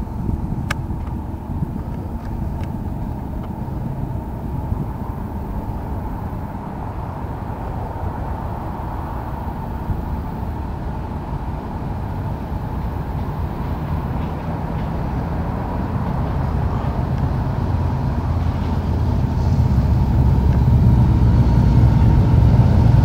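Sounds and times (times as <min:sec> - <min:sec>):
locomotive low rumble: 0:00.0 - 0:23.0.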